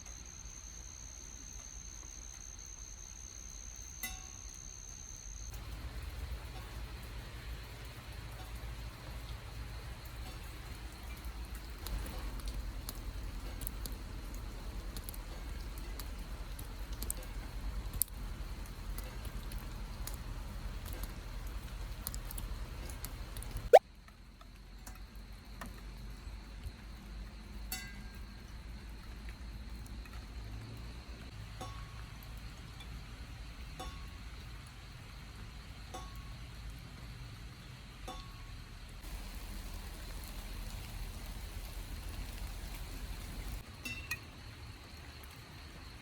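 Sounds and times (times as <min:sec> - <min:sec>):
rain pattering: 0:05.5 - 0:46.0.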